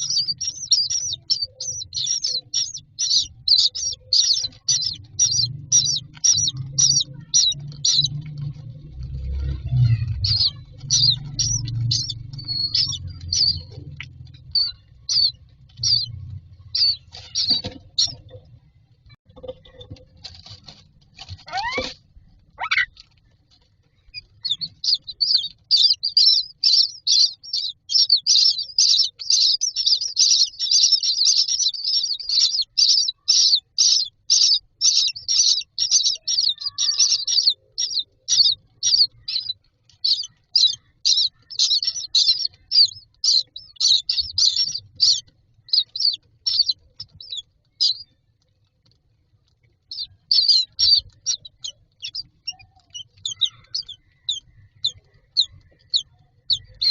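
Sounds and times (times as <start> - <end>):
nestlings begging chirps: 0.0 - 18.4, 21.4 - 23.0, 23.9 - 48.2, 49.9 - 56.9.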